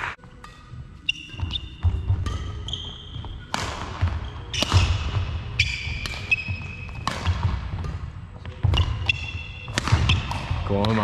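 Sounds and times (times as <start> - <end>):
racket hitting shuttlecock: 0.2 - 11.0
shoes squeaking on wooden floor: 1.0 - 11.0.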